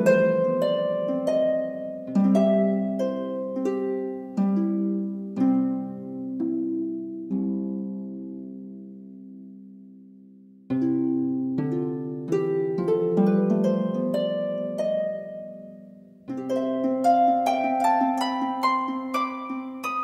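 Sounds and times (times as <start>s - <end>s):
plucked string melody: 0.0s - 10.0s, 10.7s - 20.0s.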